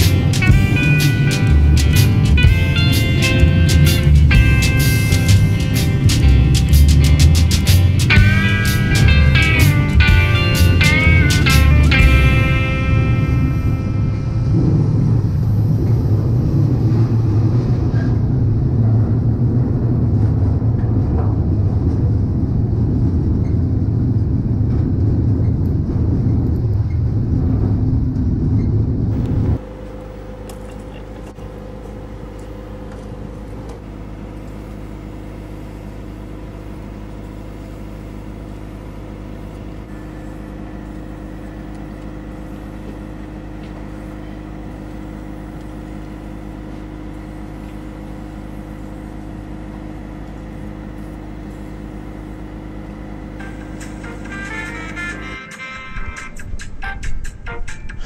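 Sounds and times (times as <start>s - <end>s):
freight train rumbling: 0.0s - 58.0s
quiet steady hum with tones: 8.0s - 55.0s.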